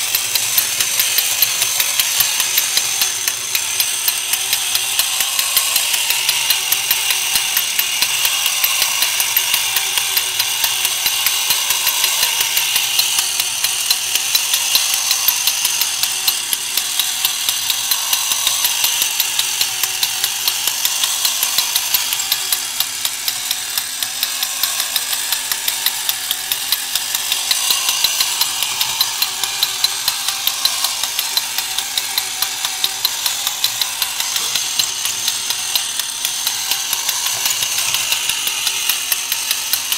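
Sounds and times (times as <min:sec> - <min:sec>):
toy motor whirring and ticking: 0:00.0 - 0:39.9.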